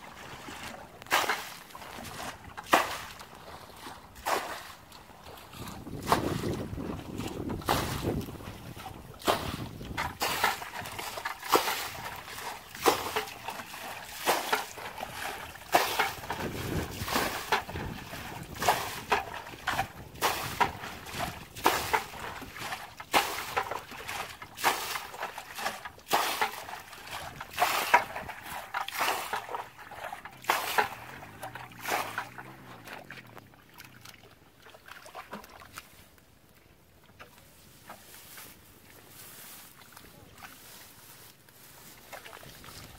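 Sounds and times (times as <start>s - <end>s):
muddy water splashing: 0.0s - 42.9s
water sloshing: 0.0s - 42.9s.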